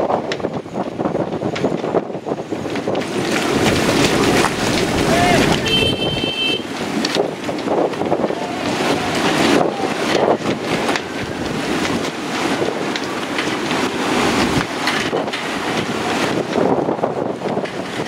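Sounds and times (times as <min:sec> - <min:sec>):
strong wind gusting on microphone: 0:00.0 - 0:18.0
water sloshing against boats: 0:02.7 - 0:18.0.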